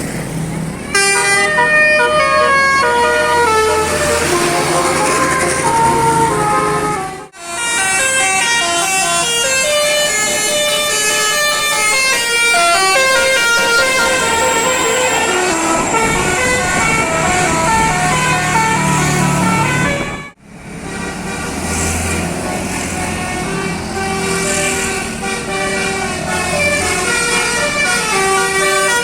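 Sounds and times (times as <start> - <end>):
tuned air horns melody: 0.9 - 29.0.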